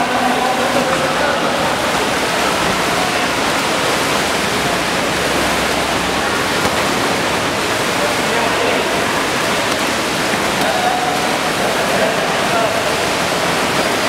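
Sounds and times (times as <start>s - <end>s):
swimmers splashing water: 0.0s - 14.0s.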